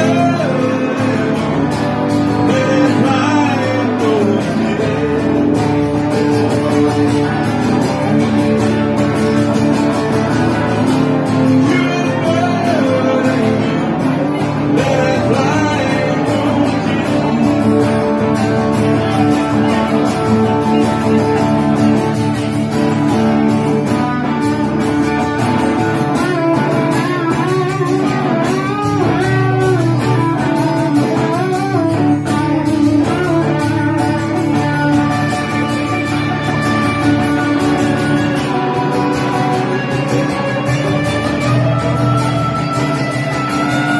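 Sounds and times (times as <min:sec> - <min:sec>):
acoustic guitar strumming: 0:00.0 - 0:43.9
electric guitar lead solo: 0:00.0 - 0:43.9.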